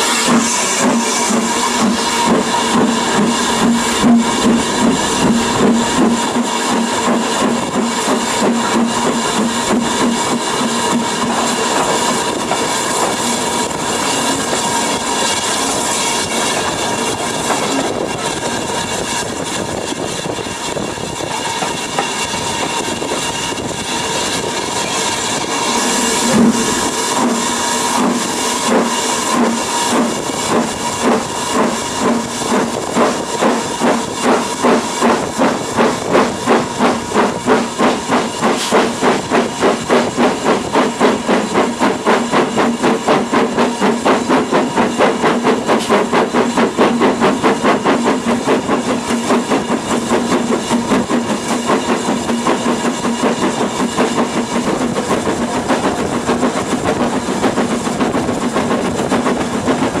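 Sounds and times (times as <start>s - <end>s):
steam hissing: 0.0s - 60.0s
steam locomotive chuffing: 0.0s - 60.0s.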